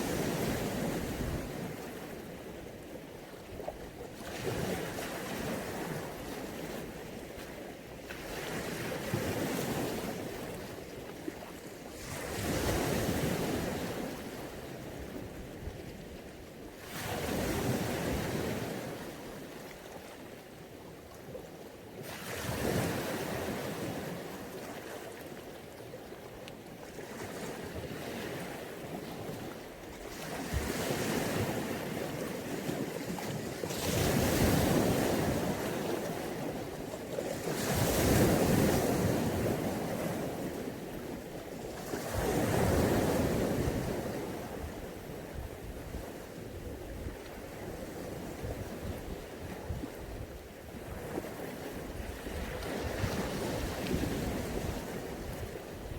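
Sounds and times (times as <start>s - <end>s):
sea waves breaking on beach: 0.0s - 15.5s, 16.8s - 20.4s, 22.0s - 26.2s, 26.9s - 55.9s.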